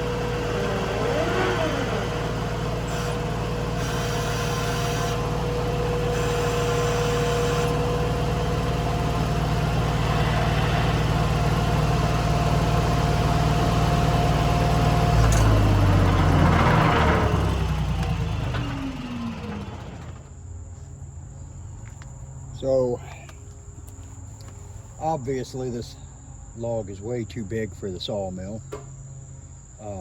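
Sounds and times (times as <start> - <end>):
diesel engine running: 0.0 - 26.3.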